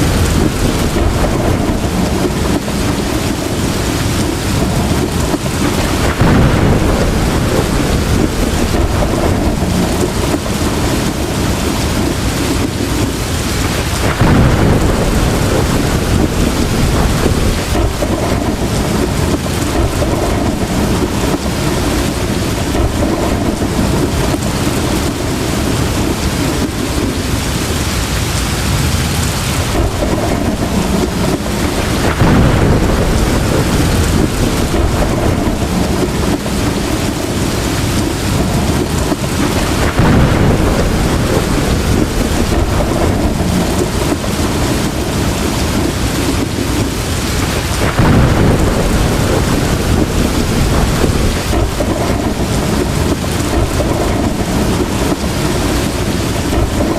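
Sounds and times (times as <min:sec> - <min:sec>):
heavy rain pouring: 0:00.0 - 0:56.9
low thunder rumbling: 0:00.0 - 0:56.9.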